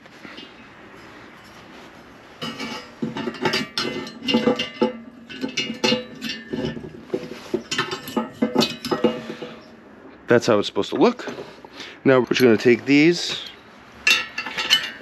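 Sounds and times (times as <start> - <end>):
metal plate and springs clanking: 0.0 - 9.8, 10.9 - 15.0.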